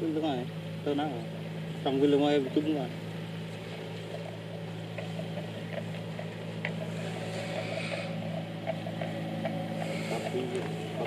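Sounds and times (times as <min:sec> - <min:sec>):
faint distant voices: 0:00.0 - 0:11.0
small engine humming: 0:00.0 - 0:11.0.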